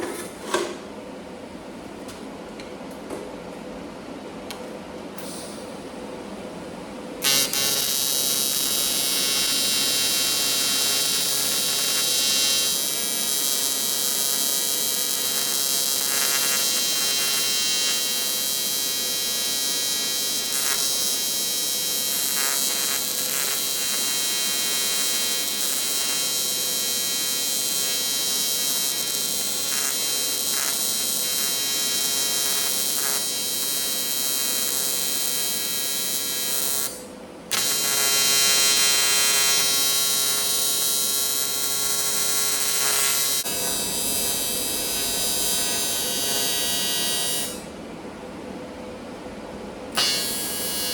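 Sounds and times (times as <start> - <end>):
welding arc buzzing hiss: 5.2 - 6.0, 7.2 - 47.8, 49.9 - 50.9.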